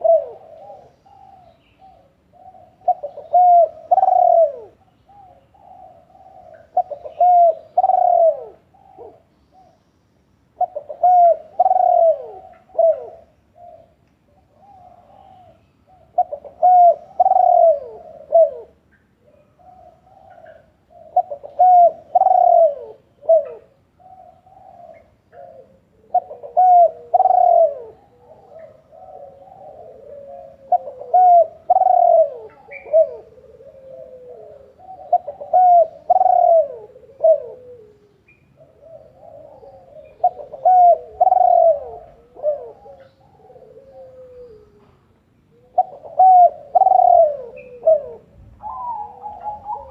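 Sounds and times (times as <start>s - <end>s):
dove cooing: 0.0s - 9.9s, 10.5s - 49.9s.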